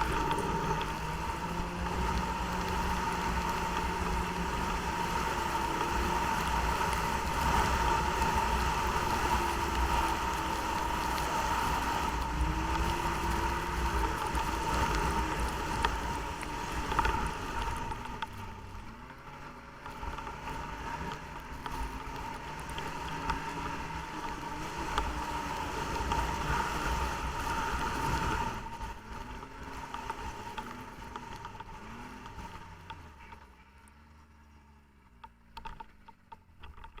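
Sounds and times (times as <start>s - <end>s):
snowmobile engine running: 0.0s - 37.0s.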